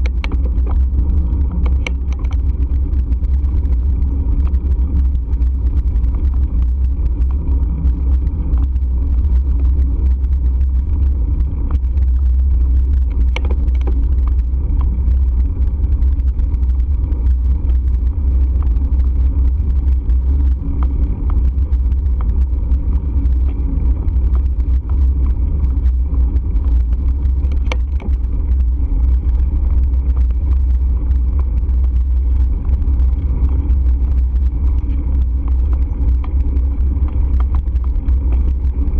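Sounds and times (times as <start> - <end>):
loud low riding rumble: 0.0 - 38.9
small clicks and ticks: 0.0 - 38.9.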